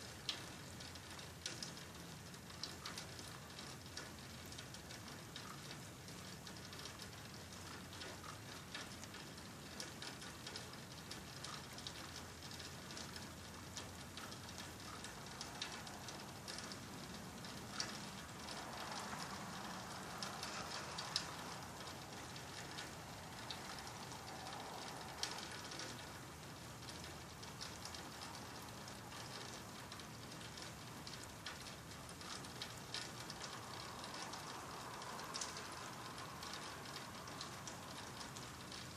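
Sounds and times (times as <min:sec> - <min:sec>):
rain falling: 0:00.0 - 0:38.9
drops ticking on a surface: 0:00.2 - 0:38.9.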